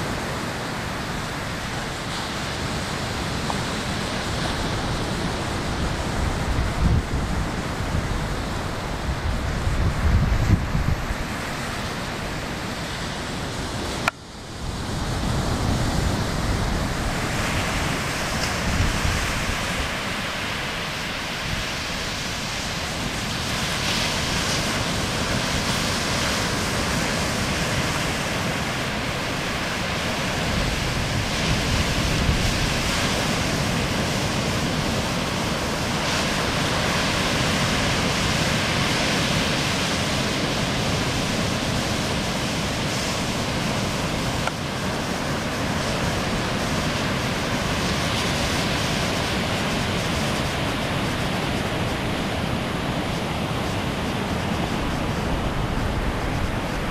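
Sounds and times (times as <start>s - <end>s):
ocean waves breaking: 0.0s - 56.9s
wind buffeting microphone: 0.0s - 56.9s.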